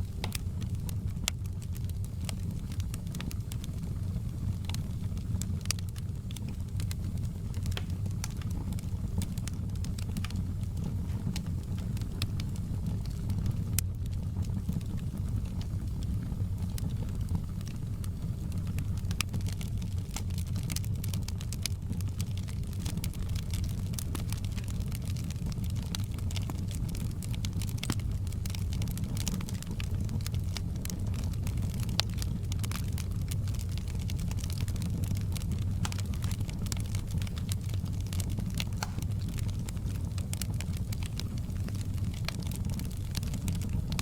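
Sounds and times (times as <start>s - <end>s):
low fire rumble: 0.0s - 44.0s
wood fire crackling and popping: 0.0s - 44.0s.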